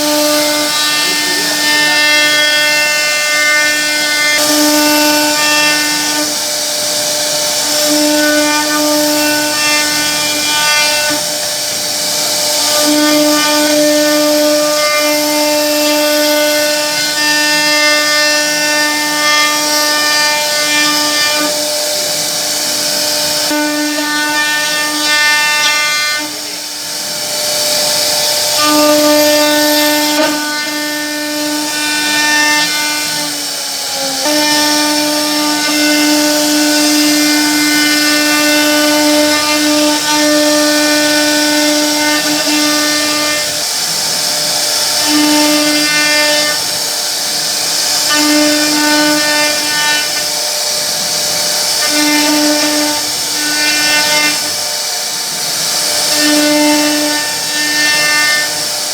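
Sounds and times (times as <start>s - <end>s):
bit cutting wood hiss: 0.0s - 58.9s
router spindle high whine: 0.0s - 58.9s.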